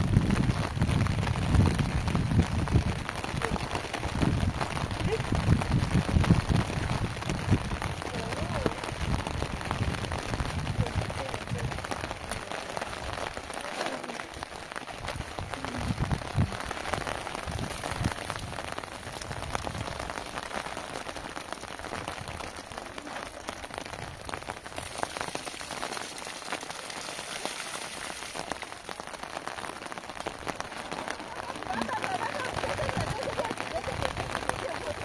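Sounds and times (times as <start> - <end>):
heavy rain on plastic sheet: 0.0 - 35.0
runoff water pouring: 0.0 - 35.0.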